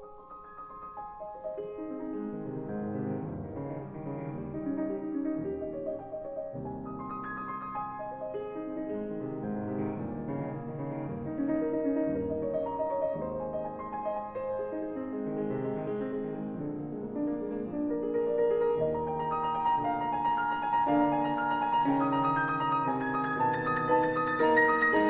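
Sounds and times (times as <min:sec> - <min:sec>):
classical piano playing: 0:00.0 - 0:25.0.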